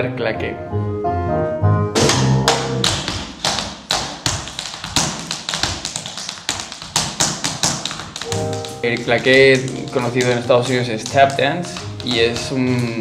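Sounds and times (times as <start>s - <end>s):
tap shoes on hard floor: 2.0s - 13.0s.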